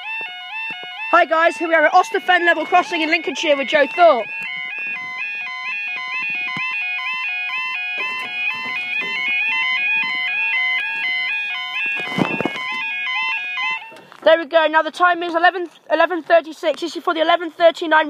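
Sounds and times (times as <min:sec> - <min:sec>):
level crossing alarm warbling: 0:00.0 - 0:15.2.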